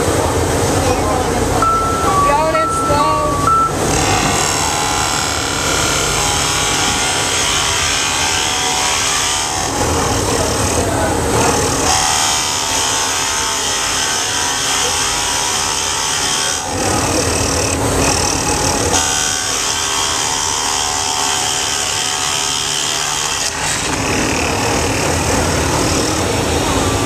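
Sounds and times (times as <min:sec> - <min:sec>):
drill press boring wood: 0:03.9 - 0:27.0.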